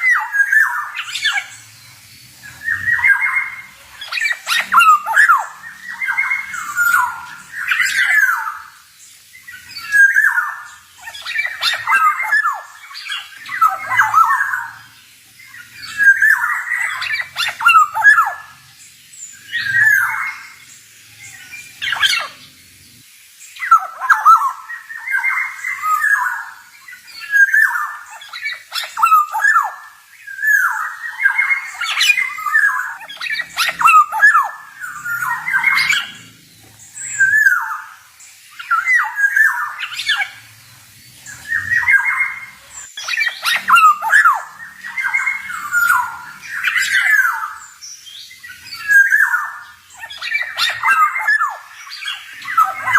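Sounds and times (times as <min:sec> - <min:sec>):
bird singing whistled phrases: 0:00.0 - 0:08.8, 0:09.4 - 0:14.9, 0:15.5 - 0:18.6, 0:23.6 - 0:40.5, 0:41.2 - 0:52.9.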